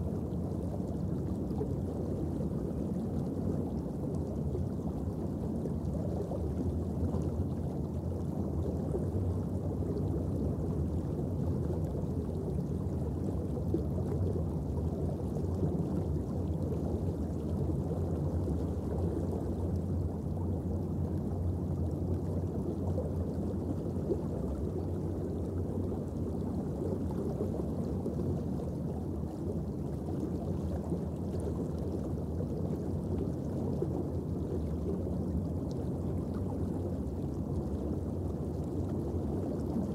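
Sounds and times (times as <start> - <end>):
low underwater rumble: 0.0 - 39.9.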